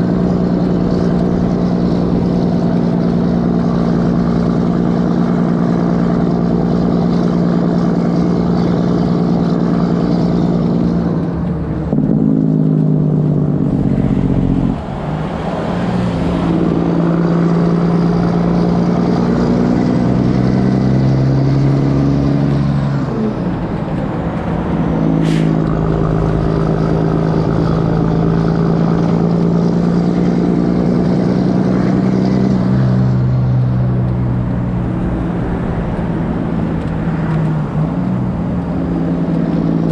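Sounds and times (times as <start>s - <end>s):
loud truck diesel engine: 0.0s - 39.9s.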